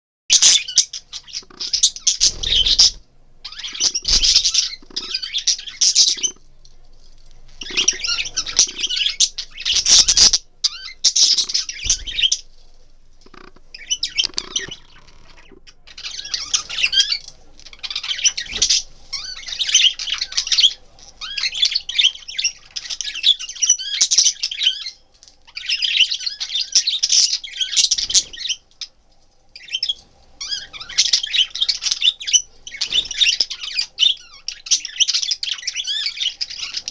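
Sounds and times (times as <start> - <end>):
budgerigars squawking: 0.3 - 6.4, 7.6 - 12.4, 13.2 - 28.6, 29.6 - 36.9.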